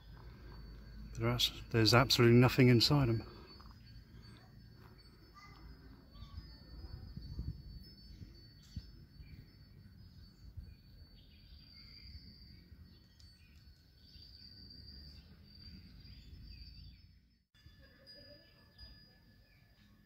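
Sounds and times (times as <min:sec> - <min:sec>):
insect drone: 0:00.0 - 0:16.8
bird chirps: 0:00.0 - 0:20.0.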